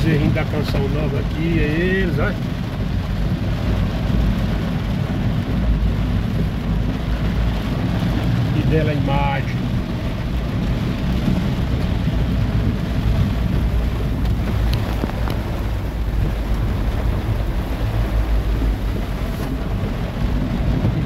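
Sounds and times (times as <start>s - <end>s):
car road rumble: 0.0s - 21.0s
faint ticks of raindrops: 0.0s - 21.0s
rain hissing on car: 0.0s - 21.0s.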